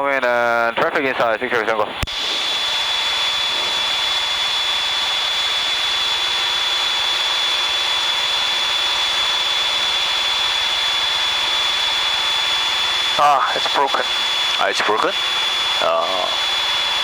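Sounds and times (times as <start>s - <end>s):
aircraft cockpit engine drone: 0.0s - 17.0s
high-pitched whine: 0.0s - 17.0s.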